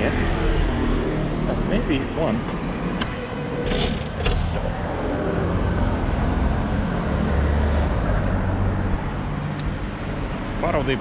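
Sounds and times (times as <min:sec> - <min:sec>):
road and tyre noise: 0:00.0 - 0:11.0.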